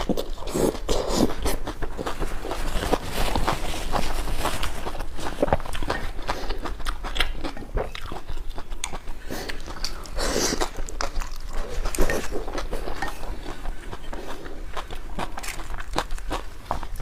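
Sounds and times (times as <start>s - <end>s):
person chewing and biting food: 0.0s - 17.0s.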